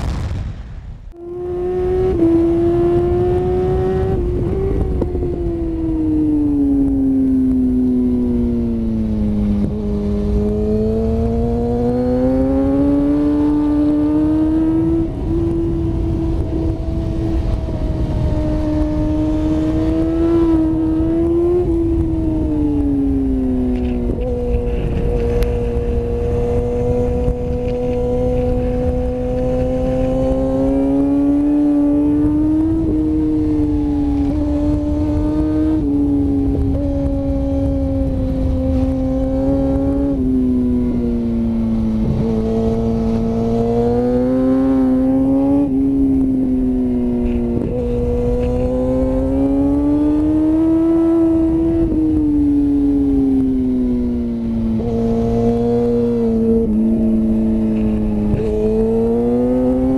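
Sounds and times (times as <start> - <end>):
wind rush: 0.0 - 7.3, 8.1 - 59.9
motorcycle engine at racing speed: 1.1 - 59.9.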